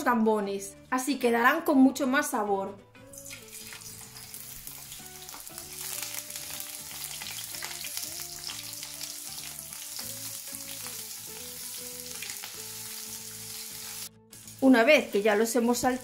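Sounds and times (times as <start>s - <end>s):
soft background music: 0.0s - 16.0s
prawns sizzling in oil: 3.1s - 16.0s.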